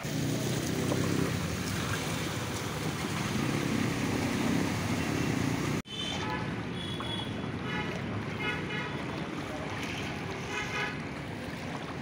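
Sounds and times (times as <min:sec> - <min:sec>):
water splashing from wheels: 0:00.0 - 0:12.0.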